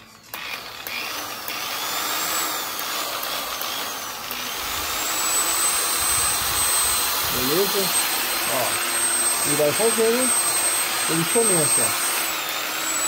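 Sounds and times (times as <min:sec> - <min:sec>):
electric polisher whirring: 0:00.0 - 0:13.0.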